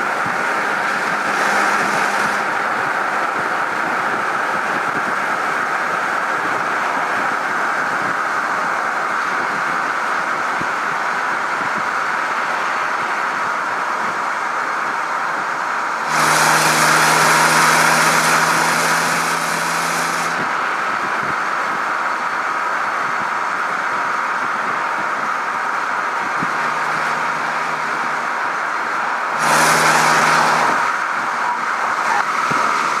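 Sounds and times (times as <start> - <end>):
exhaust hum: 0.0 - 33.0
wind and tyre noise: 0.0 - 33.0.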